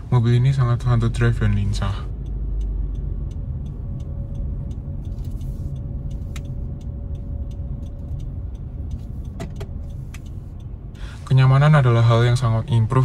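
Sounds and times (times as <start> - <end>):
road and engine rumble in car: 0.0 - 13.0
faint regular tick: 0.2 - 13.0.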